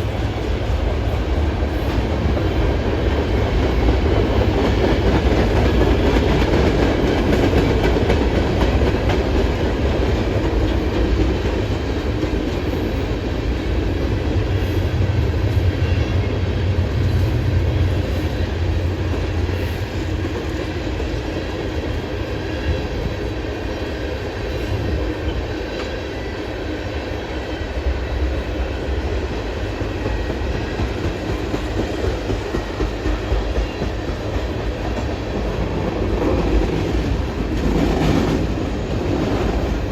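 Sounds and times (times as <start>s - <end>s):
train rail cars rumbling: 0.0s - 39.9s.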